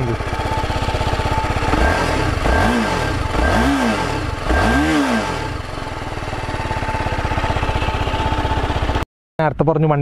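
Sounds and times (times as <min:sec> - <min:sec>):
motorcycle engine revving and idling: 0:00.0 - 0:09.0.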